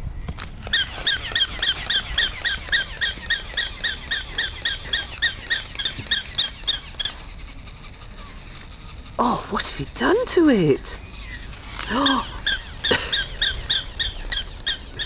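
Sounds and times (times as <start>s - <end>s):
toy dog squeaky yapping: 0.7s - 9.0s, 11.1s - 15.0s.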